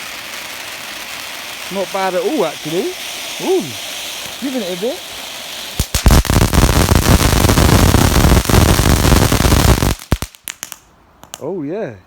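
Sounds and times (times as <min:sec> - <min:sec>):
firework fountain crackling: 0:00.0 - 0:11.4.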